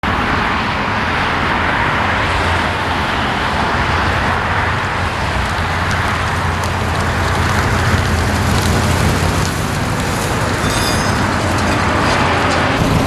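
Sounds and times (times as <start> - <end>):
vehicle noise rushing and humming: 0.0 - 13.0.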